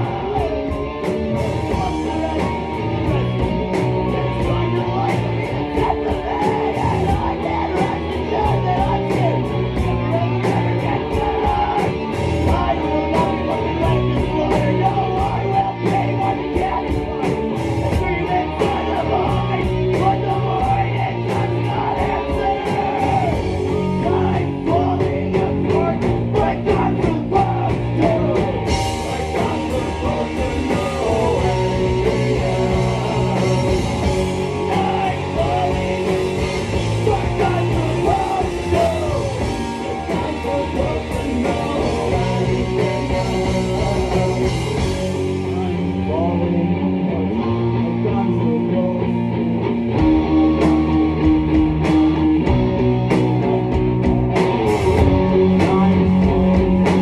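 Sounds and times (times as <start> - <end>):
man singing: 0.0 - 46.8, 47.4 - 49.4, 54.8 - 57.0
drums: 0.0 - 57.0
electric guitars: 0.0 - 57.0.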